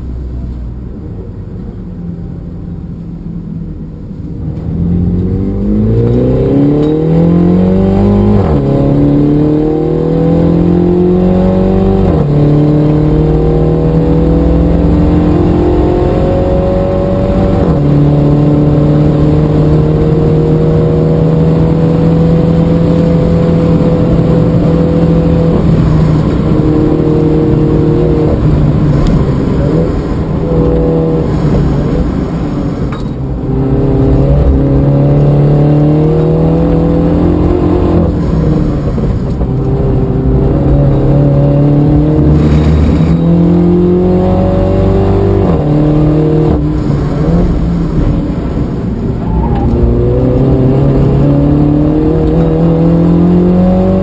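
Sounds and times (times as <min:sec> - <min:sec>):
car engine revving hard: 0:04.7 - 0:54.0.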